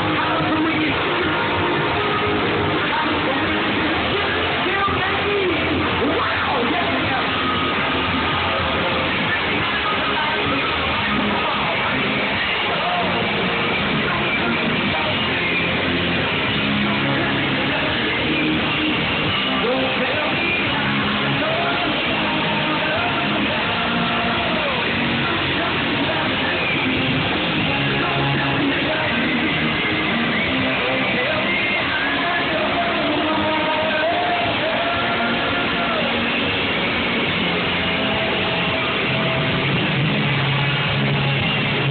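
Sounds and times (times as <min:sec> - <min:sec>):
electric guitar: 0:00.0 - 0:41.9
rock band playing live: 0:00.0 - 0:41.9.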